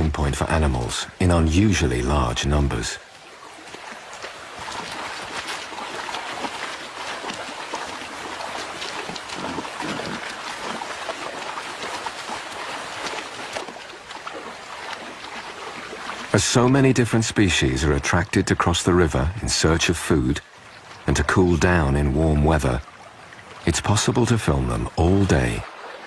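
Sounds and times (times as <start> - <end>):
river water rushing: 0.0 - 18.1, 18.9 - 26.0
animals splashing through water: 1.5 - 26.0.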